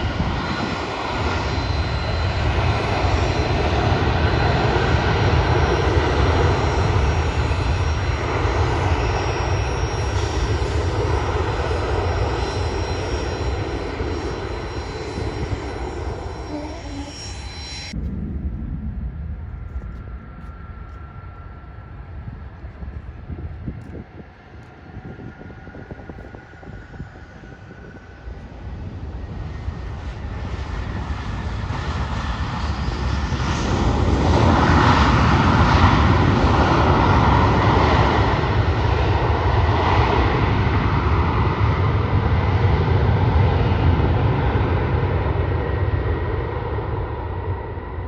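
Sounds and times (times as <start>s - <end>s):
jet airliner engines passing: 0.0s - 48.0s.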